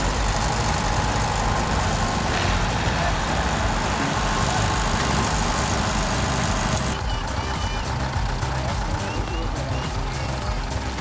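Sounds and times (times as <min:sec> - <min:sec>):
heavy machine engine rumbling: 0:00.0 - 0:11.0.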